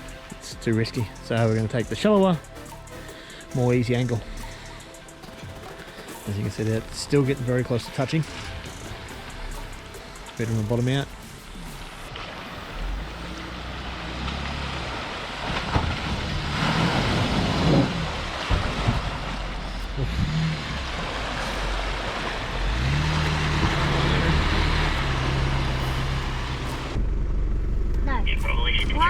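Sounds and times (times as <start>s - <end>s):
water hissing and splashing: 2.4s - 27.0s
vehicle engine under load: 4.2s - 29.0s.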